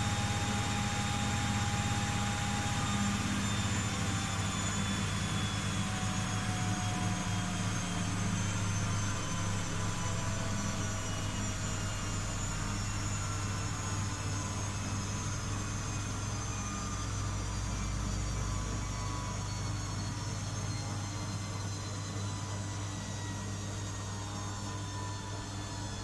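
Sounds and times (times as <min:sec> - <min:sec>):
motor whine: 0:00.0 - 0:26.0
washing machine humming: 0:00.0 - 0:26.0.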